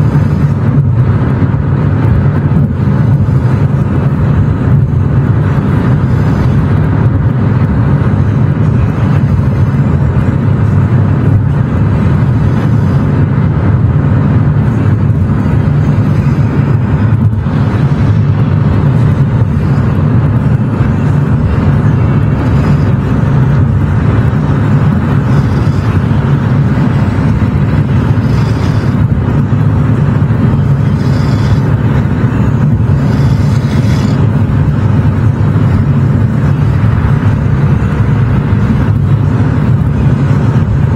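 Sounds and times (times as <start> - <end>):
car engine and tyre noise: 0.0 - 40.9.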